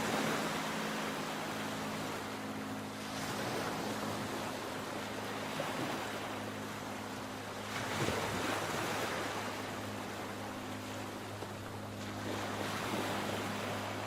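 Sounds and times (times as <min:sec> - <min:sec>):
sea waves washing onto shore: 0:00.0 - 0:14.0.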